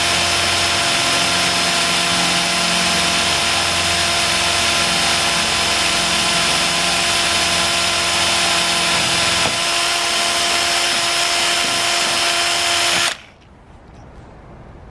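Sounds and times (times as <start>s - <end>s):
power drill whining: 0.0s - 13.4s.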